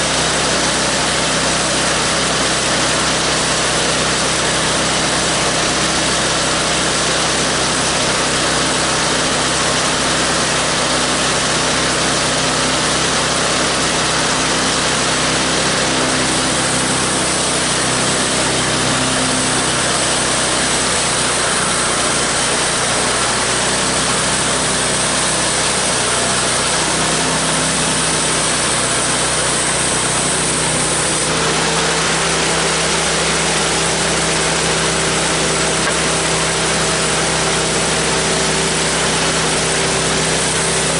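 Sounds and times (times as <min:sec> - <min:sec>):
bandsaw sawmill cutting log: 0:00.0 - 0:40.9.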